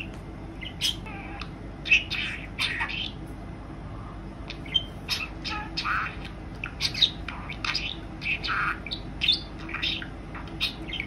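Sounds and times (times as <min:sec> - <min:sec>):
budgerigar chattering: 0:00.6 - 0:03.2, 0:04.5 - 0:11.0.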